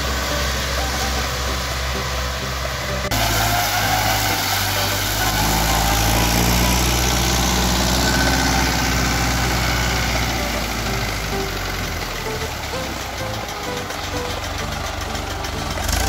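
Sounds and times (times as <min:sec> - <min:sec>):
mower cutting grass: 0:00.0 - 0:16.0
tractor diesel engine running: 0:00.0 - 0:16.0.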